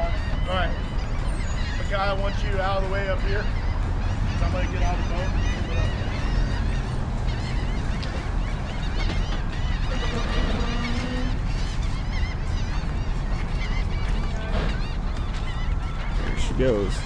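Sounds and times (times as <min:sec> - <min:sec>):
flock of birds chirping: 0:00.0 - 0:17.0.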